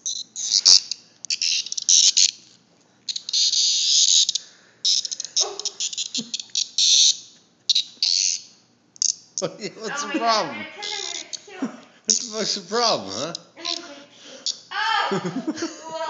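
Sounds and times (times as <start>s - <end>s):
cicada distress buzzing: 0.0s - 15.1s.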